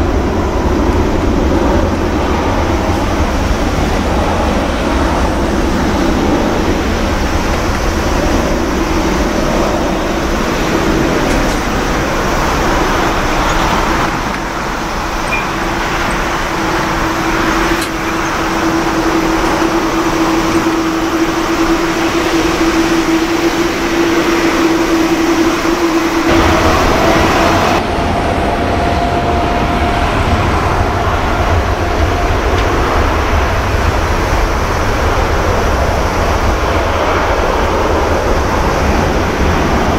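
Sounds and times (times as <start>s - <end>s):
jet engine low rumble: 0.0s - 39.9s
jet engines whining: 0.0s - 39.9s.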